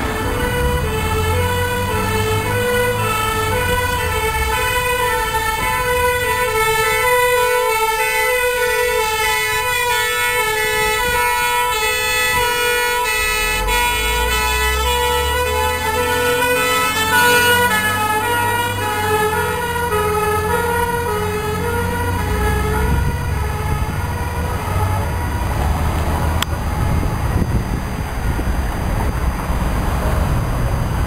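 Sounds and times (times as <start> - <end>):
fire engine two-tone siren: 0.0 - 28.5
truck engine rumble: 0.0 - 31.0.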